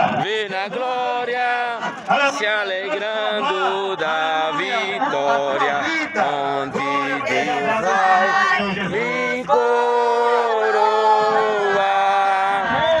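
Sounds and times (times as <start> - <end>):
people singing a hymn unaccompanied: 0.0 - 13.0.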